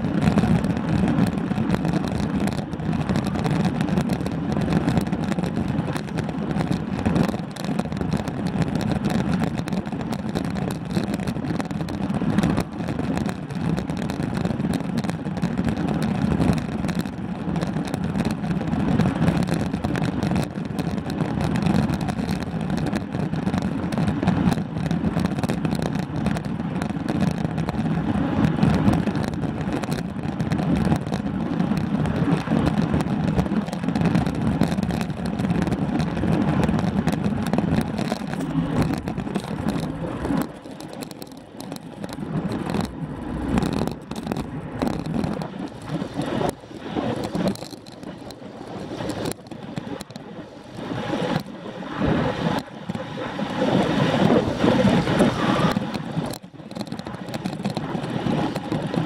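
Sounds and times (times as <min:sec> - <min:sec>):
bike tyre and road noise: 0:00.0 - 0:59.0
wind buffeting microphone: 0:00.0 - 0:59.0.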